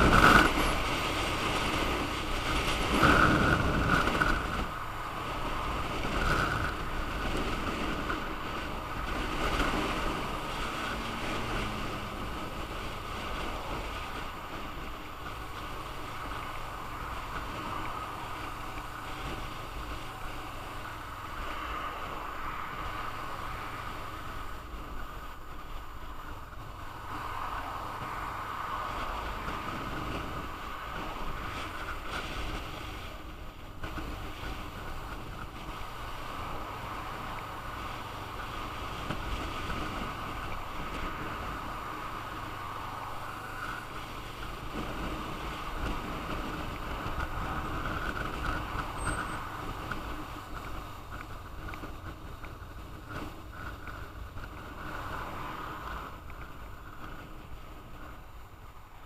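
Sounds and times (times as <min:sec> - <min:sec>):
motorcycle engine: 0:00.0 - 0:58.8
road noise: 0:00.0 - 0:59.0
wind rushing over microphone: 0:00.0 - 0:59.0.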